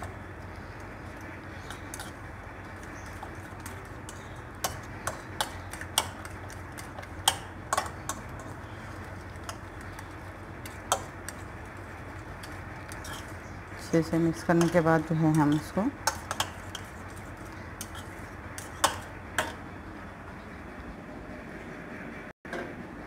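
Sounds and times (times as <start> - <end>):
utensil beating egg in bowl: 0.0 - 19.1.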